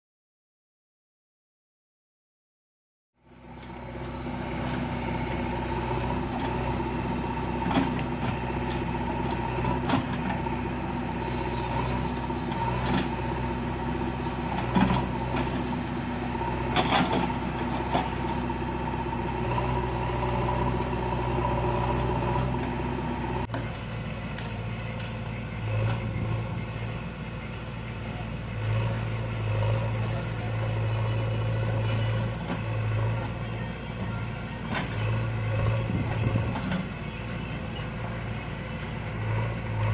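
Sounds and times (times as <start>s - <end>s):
diesel engine running: 3.2s - 39.9s.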